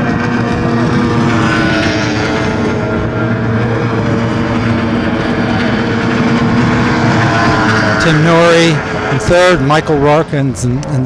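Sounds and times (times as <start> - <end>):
racing outboard motors: 0.0 - 11.0.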